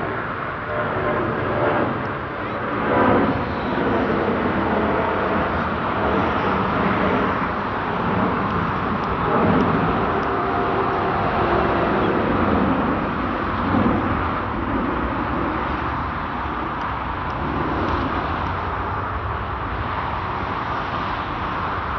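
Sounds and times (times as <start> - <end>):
jet engines roaring at takeoff: 0.0 - 21.9.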